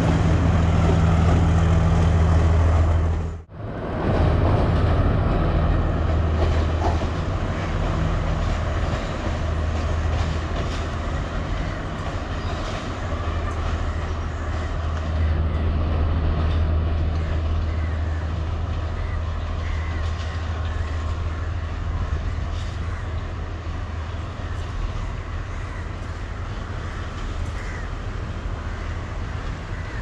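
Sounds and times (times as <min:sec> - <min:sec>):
diesel train engine drone: 0:00.0 - 0:30.0
wheel and rail rumble: 0:00.0 - 0:30.0.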